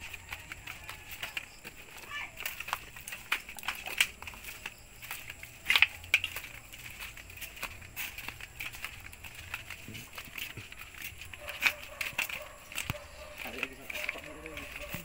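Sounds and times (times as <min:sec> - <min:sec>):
crackles and snaps: 0:00.0 - 0:15.0
footsteps on rough path: 0:00.0 - 0:15.0.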